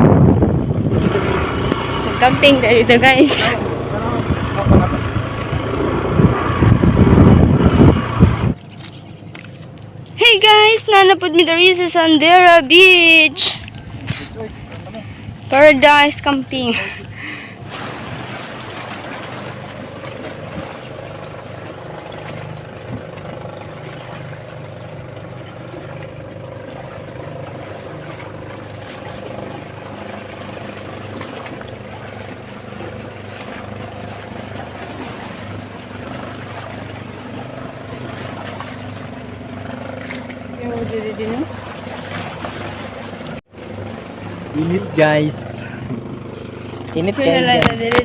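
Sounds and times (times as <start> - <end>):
engine droning: 0.0 - 48.0.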